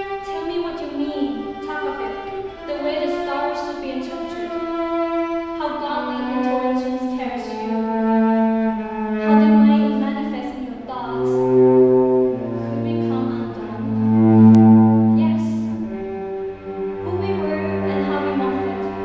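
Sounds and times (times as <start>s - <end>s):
bowed cello notes: 0.0s - 19.0s.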